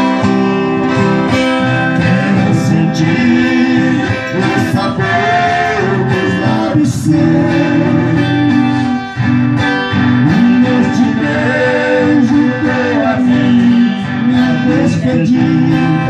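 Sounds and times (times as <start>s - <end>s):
acoustic guitars strummed: 0.0s - 16.0s
men singing: 1.7s - 16.0s.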